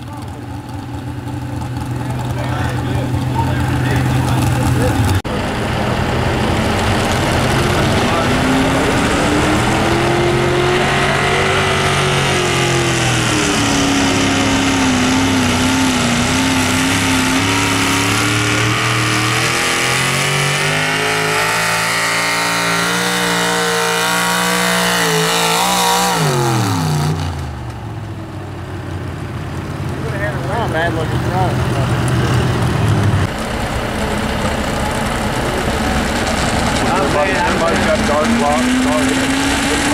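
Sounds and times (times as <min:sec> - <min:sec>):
truck engine at full throttle: 0:00.0 - 0:39.9.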